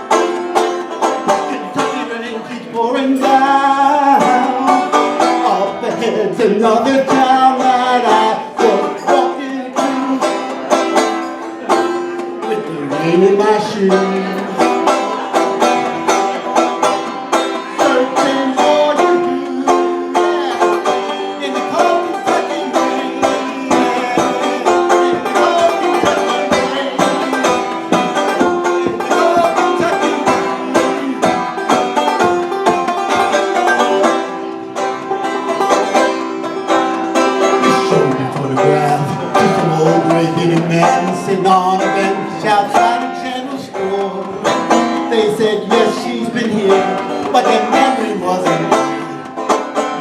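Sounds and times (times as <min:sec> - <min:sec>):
banjo picked rapidly: 0:00.0 - 0:50.0.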